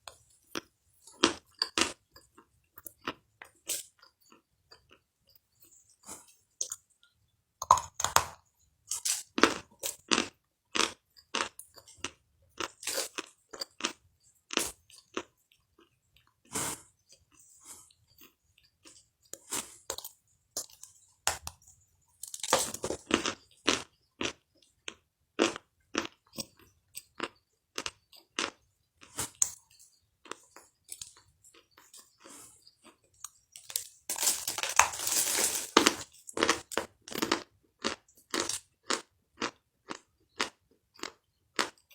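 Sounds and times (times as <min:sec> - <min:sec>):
crunchy food chewing: 0:07.6 - 0:41.9.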